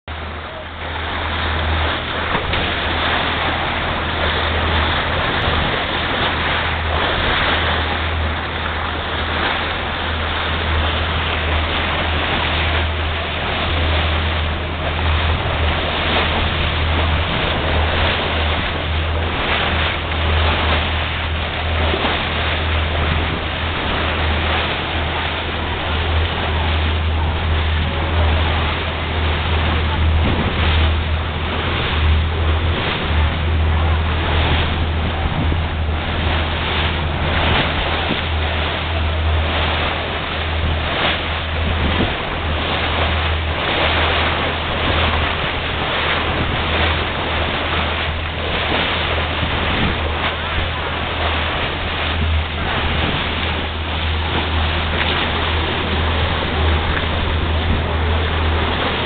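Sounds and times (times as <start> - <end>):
boat motor drone: 0.0 - 59.0
water splashing along boat hull: 0.0 - 59.0.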